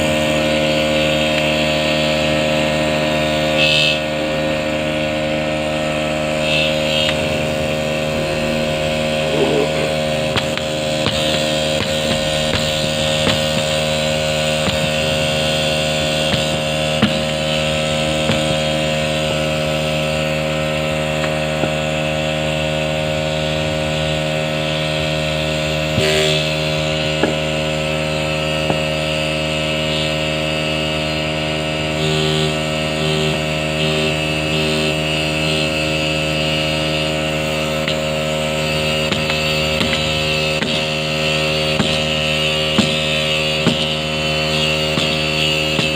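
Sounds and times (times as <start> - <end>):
small motor droning: 0.0 - 45.9.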